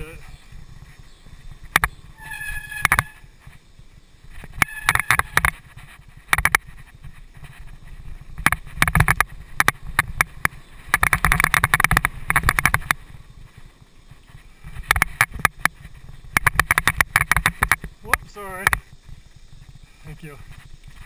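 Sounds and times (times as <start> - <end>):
mountain bike rattling on dirt: 0.0 - 21.0.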